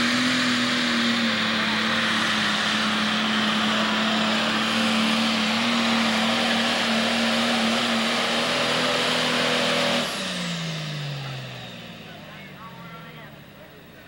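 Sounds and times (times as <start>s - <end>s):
diesel engine droning under load: 0.0s - 14.0s.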